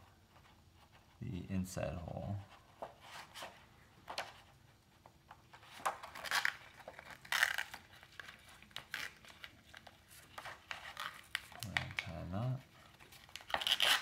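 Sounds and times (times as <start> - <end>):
plastic crinkling and rustling: 2.4 - 14.0.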